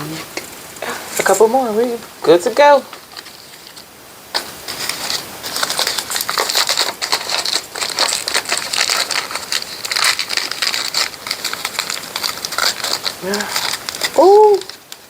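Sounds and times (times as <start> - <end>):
plastic packaging crinkling: 0.1 - 15.0.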